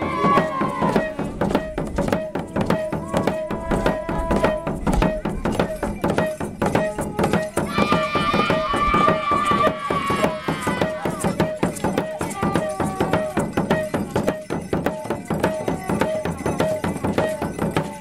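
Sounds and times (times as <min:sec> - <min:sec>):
held high tone: 0:00.0 - 0:18.0.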